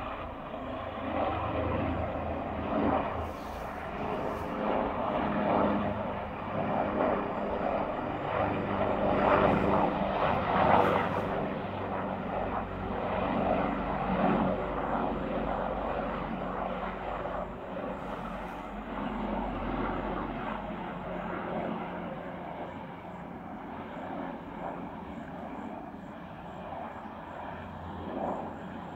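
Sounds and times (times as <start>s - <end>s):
helicopter flying past: 0.0s - 28.9s.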